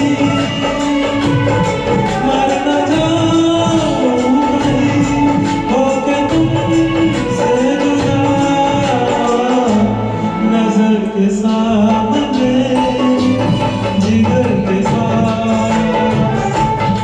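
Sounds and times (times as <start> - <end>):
jingly percussion beat: 0.0 - 10.0, 11.9 - 17.0
song with held melody: 0.0 - 17.0.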